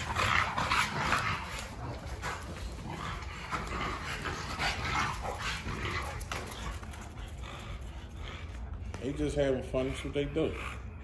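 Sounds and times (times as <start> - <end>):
dogs play-fighting noises: 0.0 - 11.0.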